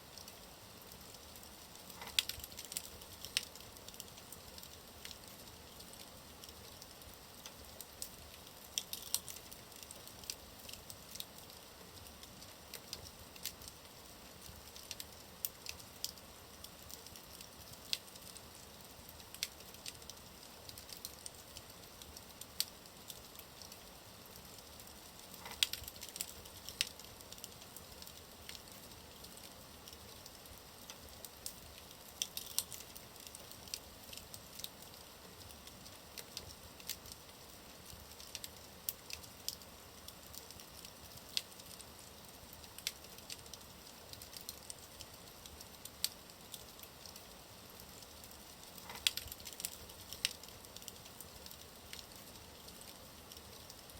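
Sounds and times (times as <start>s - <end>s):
wood fire crackling and popping: 0.1s - 53.9s.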